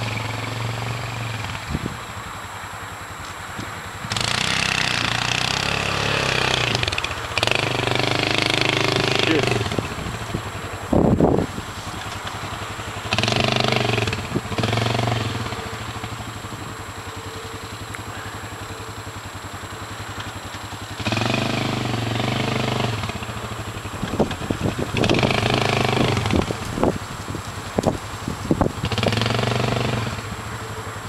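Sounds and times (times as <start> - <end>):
atv engine idling and revving: 0.0 - 31.0.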